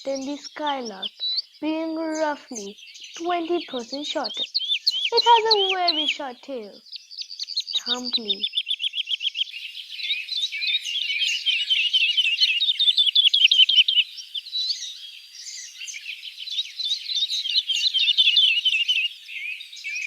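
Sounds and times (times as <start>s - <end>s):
bird singing warbling song: 0.0s - 20.0s.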